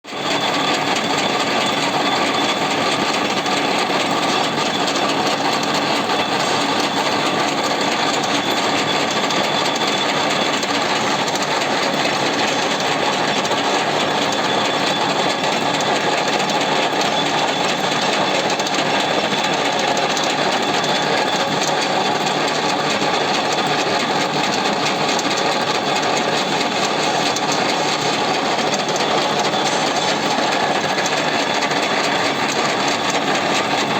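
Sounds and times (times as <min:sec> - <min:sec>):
machine mechanical whir: 0:00.2 - 0:33.9.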